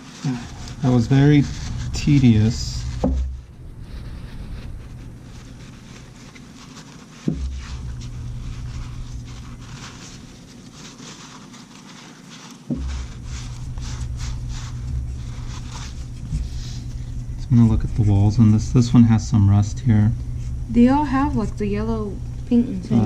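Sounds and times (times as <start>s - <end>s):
hands scraping and rustling: 0.0s - 21.2s
low hum: 0.2s - 6.6s, 7.3s - 10.6s, 12.8s - 23.0s.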